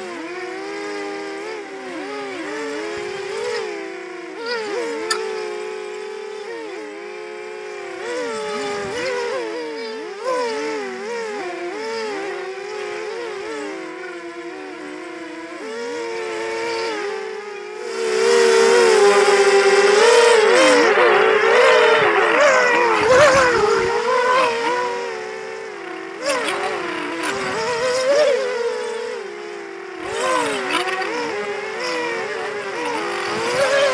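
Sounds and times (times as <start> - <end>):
drone motors whining: 0.0 - 33.9.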